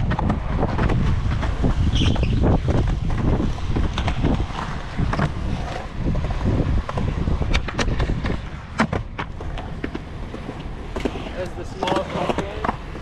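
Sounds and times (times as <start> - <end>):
skateboard clacks: 0.0 - 13.0
skateboard wheels rumbling: 0.0 - 13.0.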